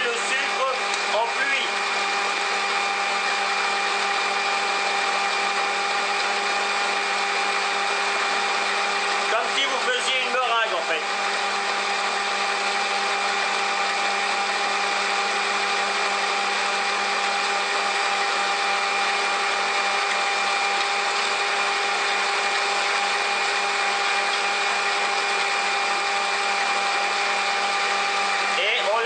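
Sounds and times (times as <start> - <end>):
stand mixer motor whine: 0.0 - 29.0.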